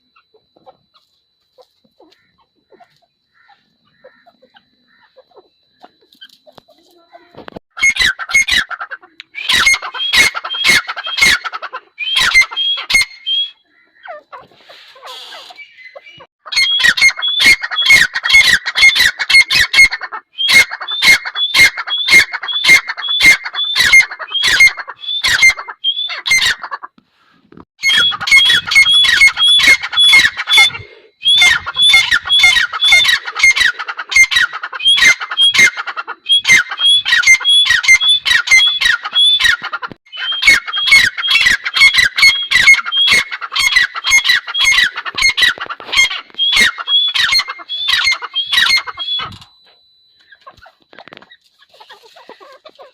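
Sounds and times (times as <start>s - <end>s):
francolin calling harshly: 0.0s - 26.9s, 27.8s - 52.9s.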